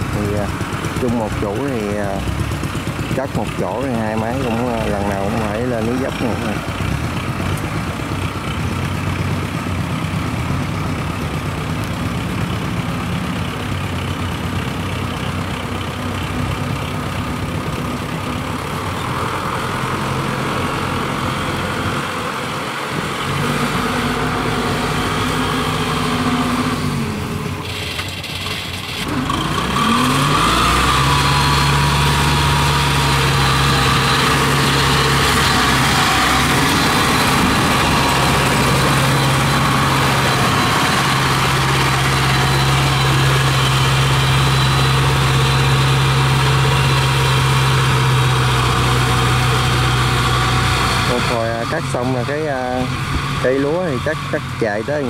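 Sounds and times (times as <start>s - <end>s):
small engine running under load: 0.0s - 55.0s.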